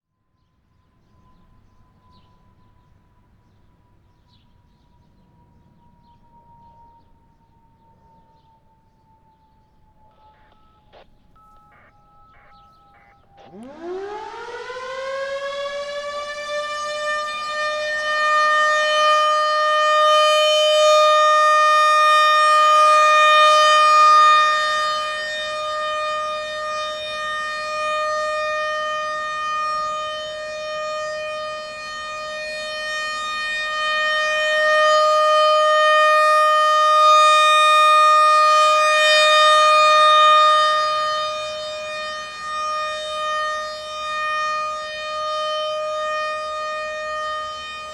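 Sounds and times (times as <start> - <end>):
outdoor warning siren wailing: 0.2 - 47.9.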